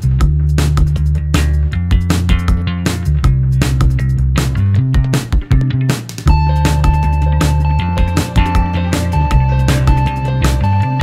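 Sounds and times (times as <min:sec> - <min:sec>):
music with drums and bass: 0:00.0 - 0:11.0.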